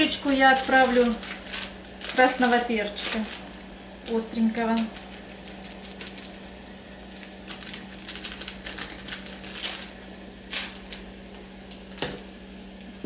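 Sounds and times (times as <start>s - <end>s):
plastic bag crinkling: 0.0s - 12.3s
steady low hum: 0.0s - 13.0s.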